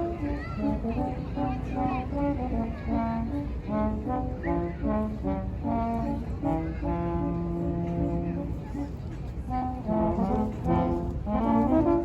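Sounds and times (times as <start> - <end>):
brass instrument slow melody: 0.0 - 12.0.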